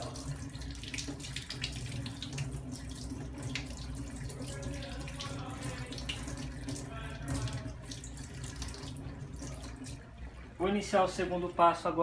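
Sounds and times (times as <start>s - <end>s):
tap water running into sink: 0.0s - 11.6s.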